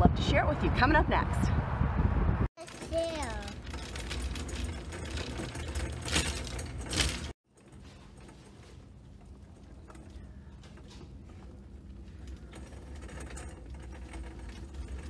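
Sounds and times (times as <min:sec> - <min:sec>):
shopping cart rolling on hard floor: 0:02.6 - 0:15.0
faint store hum: 0:02.9 - 0:15.0.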